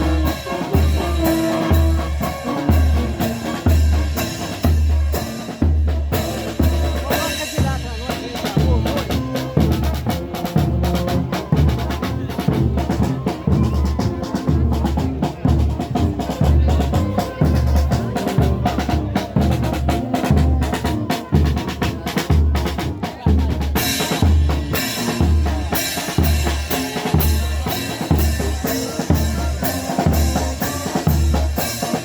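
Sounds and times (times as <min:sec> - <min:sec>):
bass drum beat: 0:00.0 - 0:32.0.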